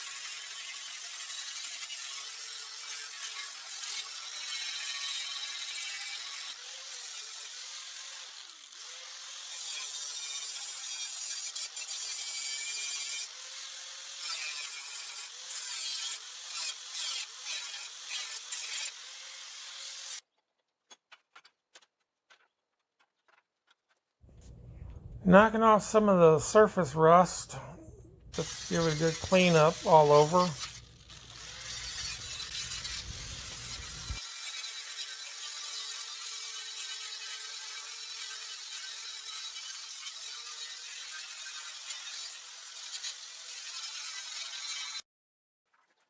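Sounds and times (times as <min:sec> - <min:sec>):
power tool grinding steel: 0:00.0 - 0:20.2, 0:28.1 - 0:45.0.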